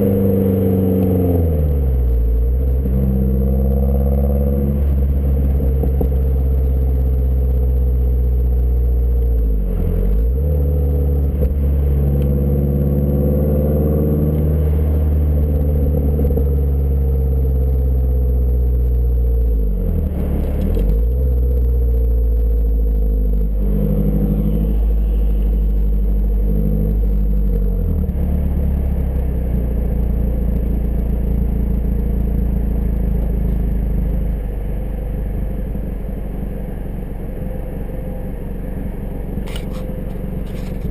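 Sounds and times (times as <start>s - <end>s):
car engine exhaust while driving: 0.0s - 40.9s.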